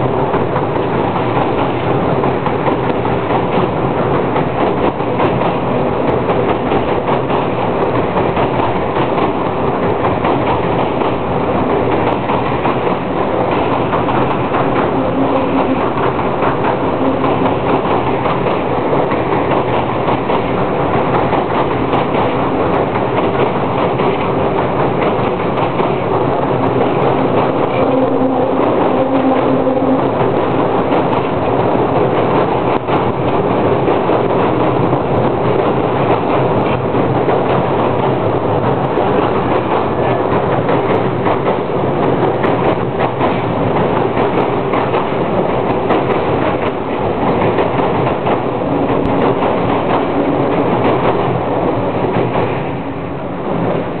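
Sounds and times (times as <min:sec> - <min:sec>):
freight train rumbling over bridge: 0:00.0 - 0:54.0.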